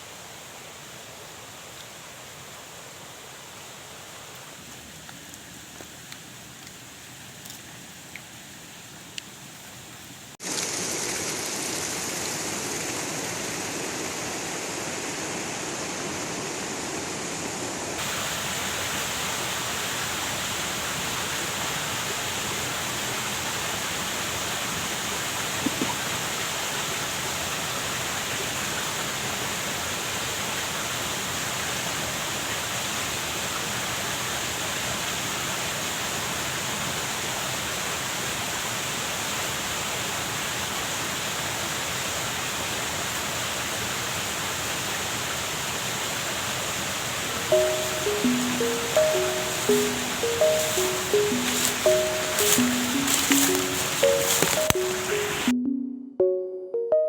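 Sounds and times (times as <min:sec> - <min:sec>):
rushing water: 0:00.0 - 0:55.5.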